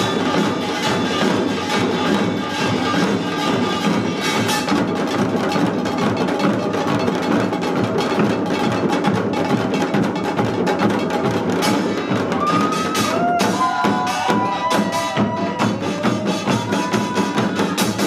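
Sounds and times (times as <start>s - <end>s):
barrel drums: 0.0s - 18.0s
hourglass drums: 0.0s - 18.0s.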